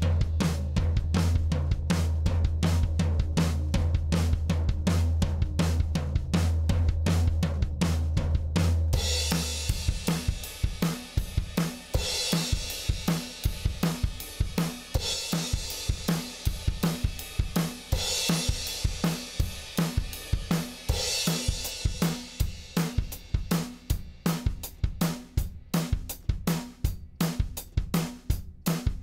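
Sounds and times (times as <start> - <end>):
drum kit groove: 0.0 - 29.0.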